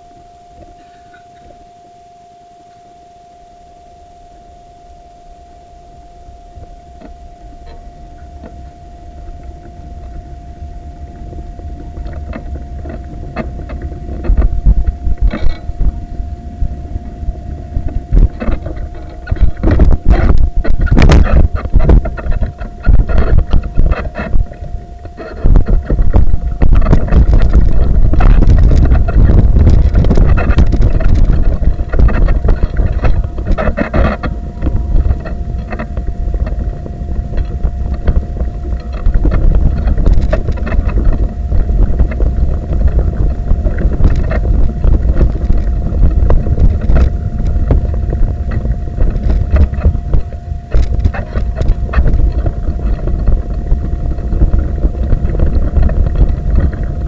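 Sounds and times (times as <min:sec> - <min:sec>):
low rumble: 0:00.0 - 0:57.0
thin steady whine: 0:00.0 - 0:57.0
wind buffeting microphone: 0:06.3 - 0:57.0.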